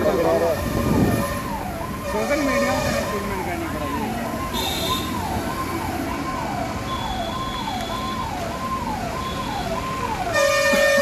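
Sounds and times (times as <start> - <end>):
road traffic rumble: 0.0 - 11.0
vehicle siren wailing: 0.0 - 11.0.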